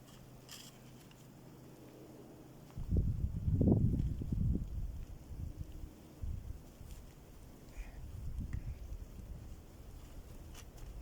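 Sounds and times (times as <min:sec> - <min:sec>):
footsteps in forest: 0:00.0 - 0:11.0.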